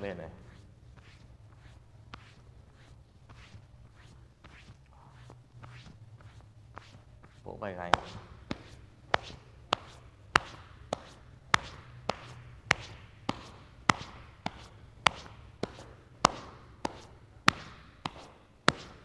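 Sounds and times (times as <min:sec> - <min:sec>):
palms slapping shoulders and neck: 0:03.3 - 0:19.0.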